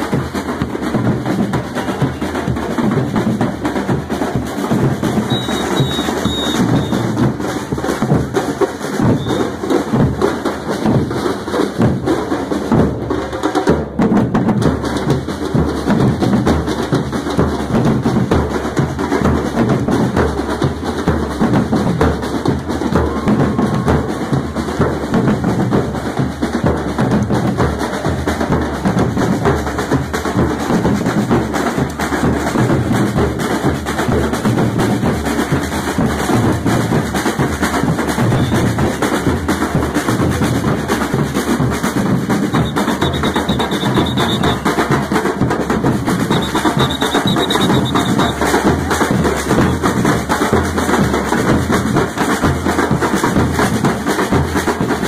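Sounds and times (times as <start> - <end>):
bass drums beaten with mallets: 0.0 - 55.0
drum corps playing: 0.0 - 55.0.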